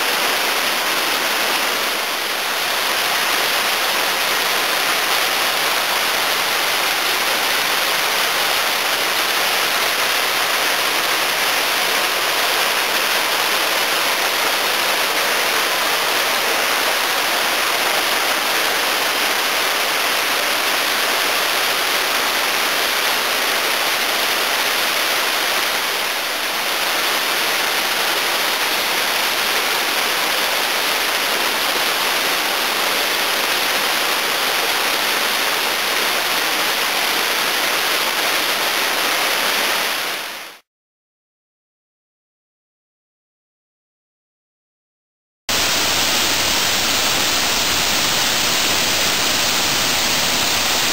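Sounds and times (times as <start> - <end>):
waterfall rushing: 0.0 - 40.6, 45.5 - 50.9.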